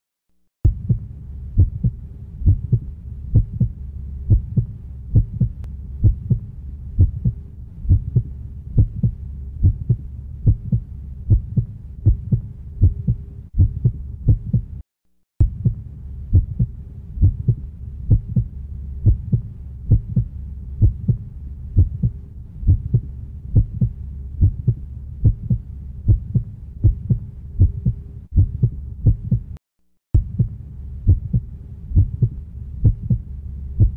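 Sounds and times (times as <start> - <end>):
faint hum: 0.7 - 14.8, 15.4 - 29.6, 30.2 - 33.9
heartbeat thumps: 0.7 - 14.8, 15.4 - 29.6, 30.2 - 33.9.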